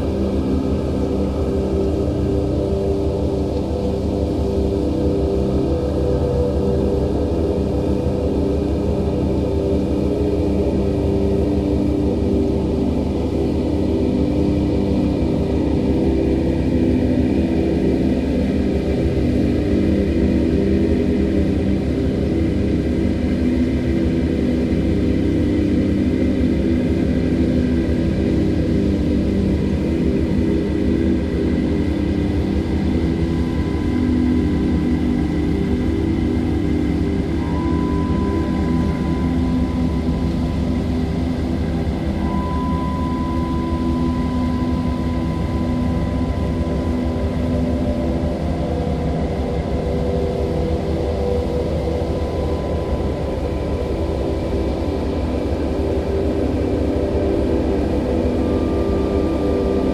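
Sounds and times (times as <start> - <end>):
ambient music tones: 0.0 - 59.9.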